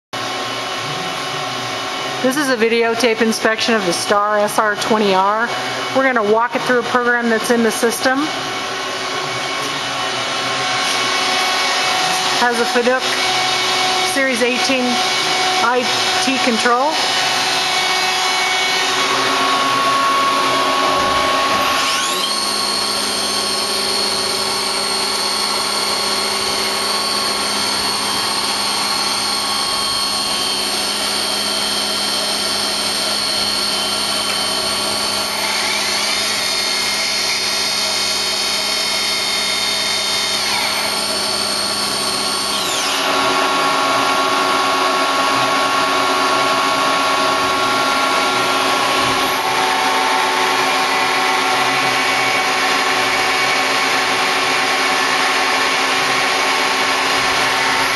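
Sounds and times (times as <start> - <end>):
lathe machine whine: 0.2 - 57.9.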